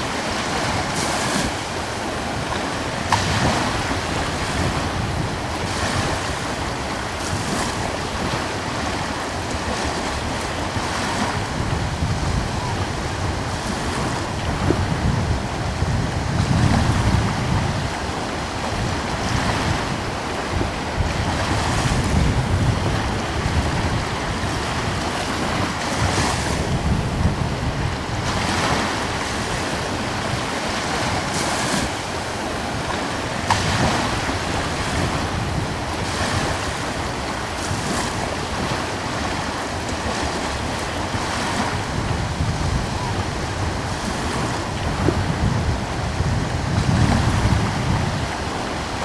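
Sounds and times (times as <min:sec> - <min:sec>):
ocean waves washing in: 0:00.0 - 0:49.0
wind rumbling on microphone: 0:00.0 - 0:49.0.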